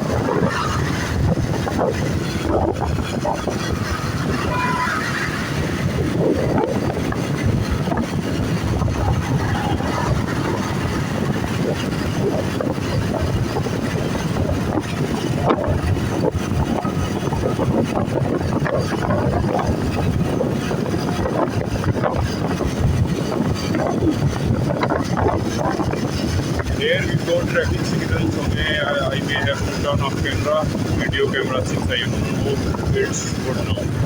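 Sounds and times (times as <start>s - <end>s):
vehicle engine and road rumble: 0.0s - 34.0s
wind buffeting microphone: 0.0s - 34.0s.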